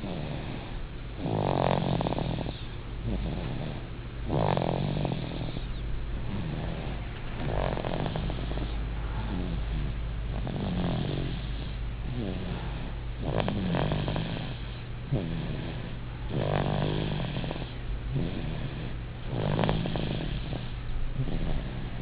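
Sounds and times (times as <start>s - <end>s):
baby snoring: 0.0s - 22.0s.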